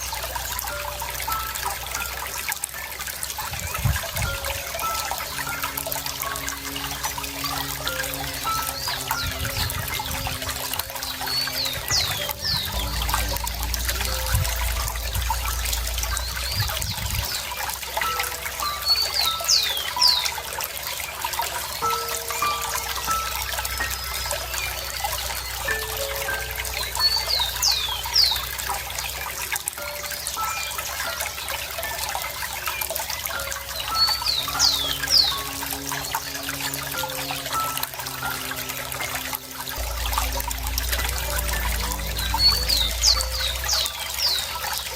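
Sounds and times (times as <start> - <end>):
bird chirping: 0.0 - 44.9
water trickling: 0.0 - 44.9.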